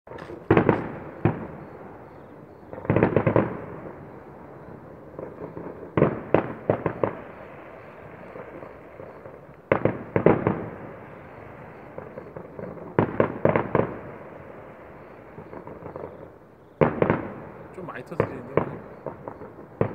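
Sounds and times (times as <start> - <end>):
fireworks bangs and pops: 0.1 - 19.9.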